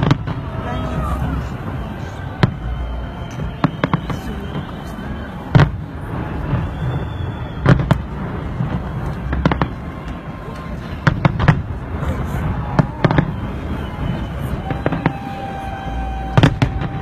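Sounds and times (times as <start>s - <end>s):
distant fireworks rumble: 0.0s - 17.0s
fireworks bangs: 0.0s - 17.0s.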